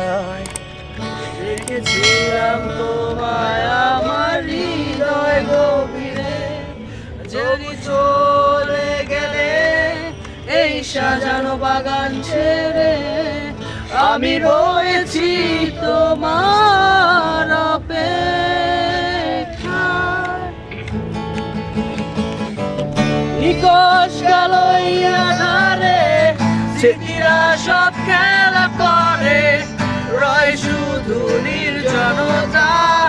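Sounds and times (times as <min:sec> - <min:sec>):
man singing: 0:00.0 - 0:00.6, 0:01.3 - 0:20.5, 0:23.4 - 0:33.0
acoustic guitar: 0:00.0 - 0:33.0.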